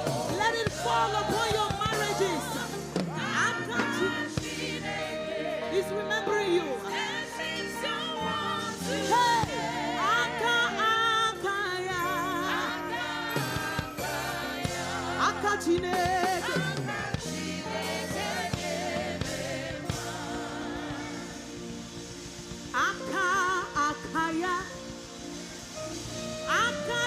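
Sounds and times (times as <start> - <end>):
choir singing: 0.0 - 22.2
voices singing with vibrato: 0.0 - 25.6
bass: 0.0 - 27.0
sustained keyboard chords: 0.0 - 27.0.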